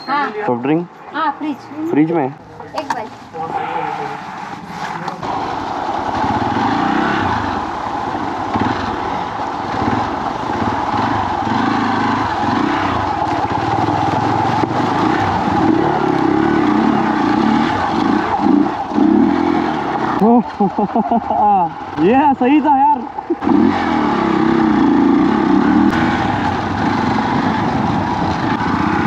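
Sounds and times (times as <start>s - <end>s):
dirt bike engine: 0.0s - 29.0s.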